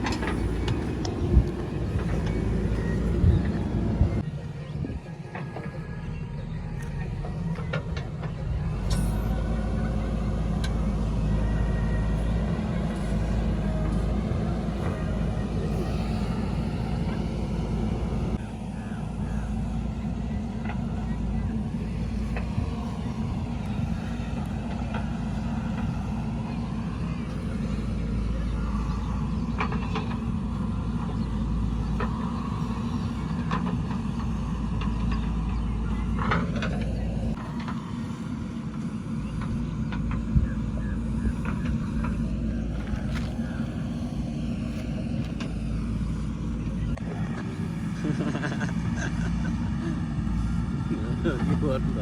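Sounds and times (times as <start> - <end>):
diesel engine rumbling: 0.0 - 52.0.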